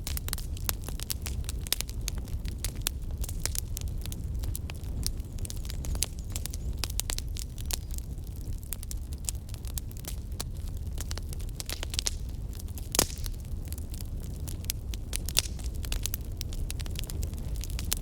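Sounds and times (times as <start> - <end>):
bonfire crackling and popping: 0.0 - 18.0
low rumble of flames: 0.0 - 18.0.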